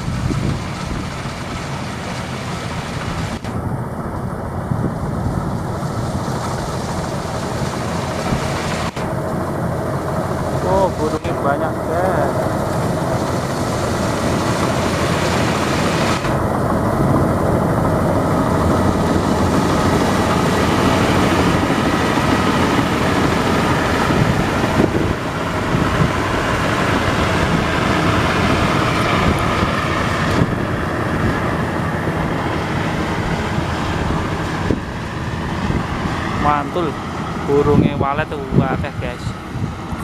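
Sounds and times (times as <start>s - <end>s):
combine harvester engine and machinery: 0.0s - 40.0s.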